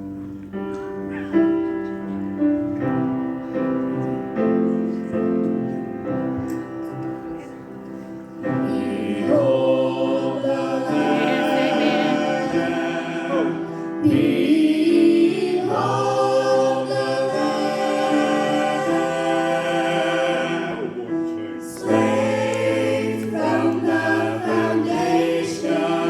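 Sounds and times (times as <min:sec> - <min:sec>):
piano with sustained chords: 0:00.0 - 0:26.0.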